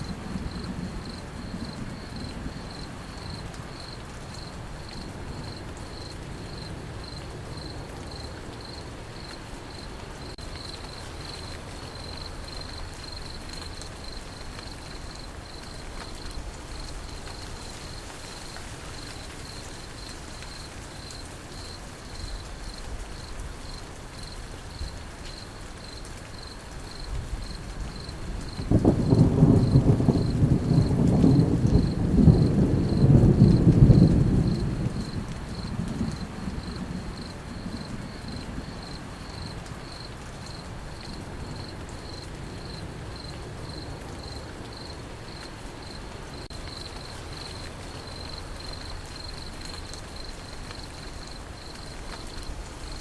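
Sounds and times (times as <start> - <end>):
crickets chirping: 0.0 - 53.0
soft rain: 0.0 - 53.0.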